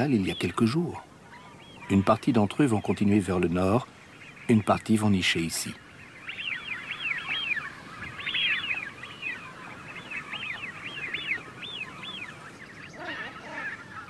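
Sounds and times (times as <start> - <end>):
godwits calling: 0.0 - 14.0
lower honking bird calls: 0.0 - 14.0.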